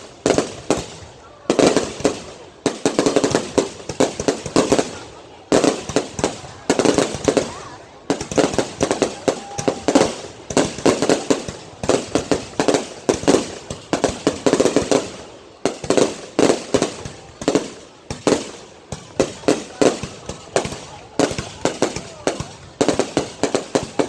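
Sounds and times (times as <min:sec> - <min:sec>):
fireworks exploding: 0:00.0 - 0:24.0.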